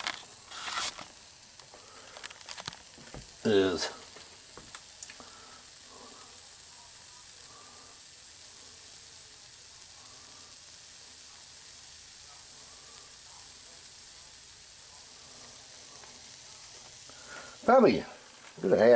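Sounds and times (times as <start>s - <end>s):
chicken sizzling in a pan: 0.0s - 18.9s.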